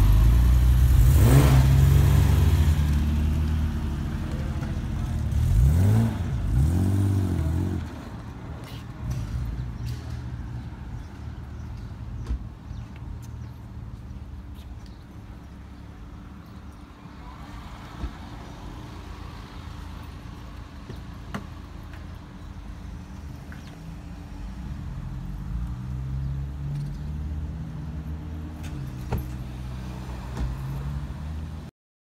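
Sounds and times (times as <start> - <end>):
cars passing on a road: 0.0 - 31.7
sports car engines humming: 0.0 - 31.7.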